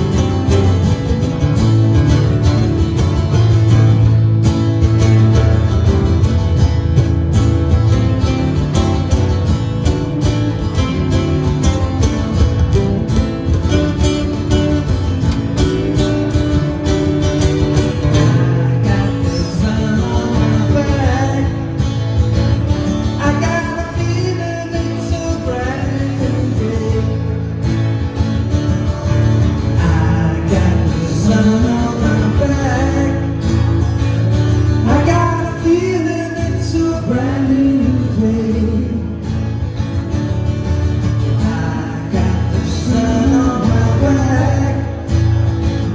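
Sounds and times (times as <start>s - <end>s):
strummed acoustic guitar: 0.0s - 45.9s.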